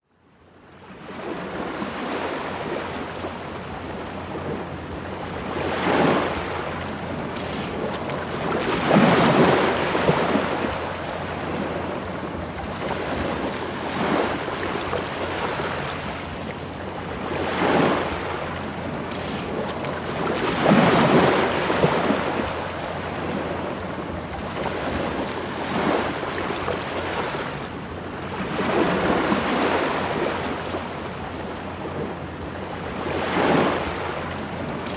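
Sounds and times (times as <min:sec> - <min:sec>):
sea waves breaking on shore: 0:00.4 - 0:34.9.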